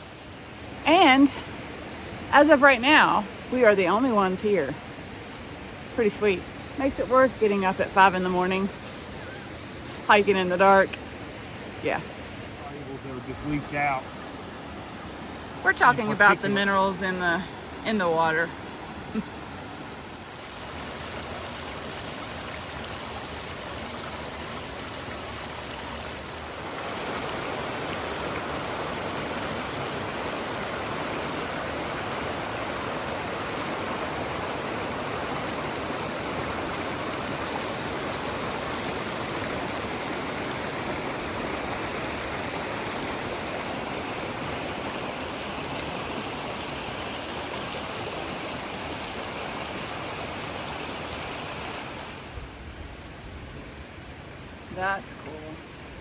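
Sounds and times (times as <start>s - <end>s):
creek water rushing over rocks: 0.0s - 56.0s.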